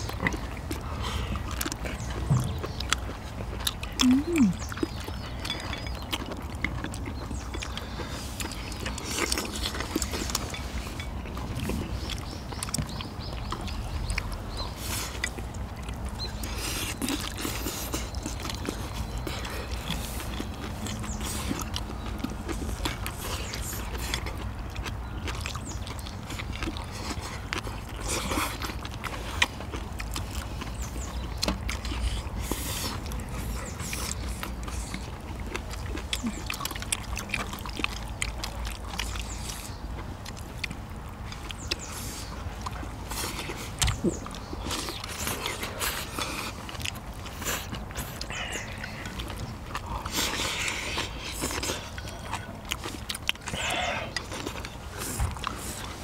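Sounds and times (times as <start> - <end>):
people chewing and slurping: 0.0 - 56.0.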